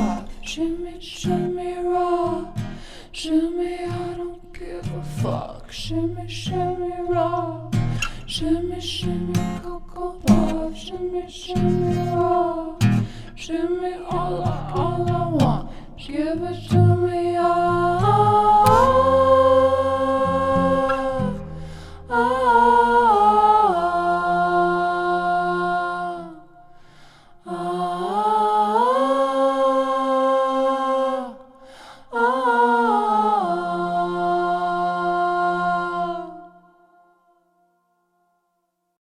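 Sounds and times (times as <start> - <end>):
wordless humming vocal: 0.0 - 26.7, 27.4 - 36.8.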